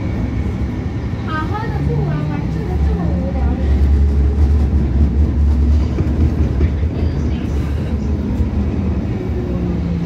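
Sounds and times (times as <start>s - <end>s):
light rail car rumbling on track: 0.0s - 10.0s.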